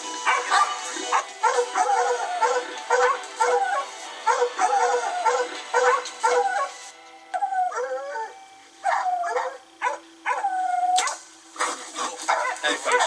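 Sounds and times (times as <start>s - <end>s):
hounds baying and barking: 0.0s - 13.0s.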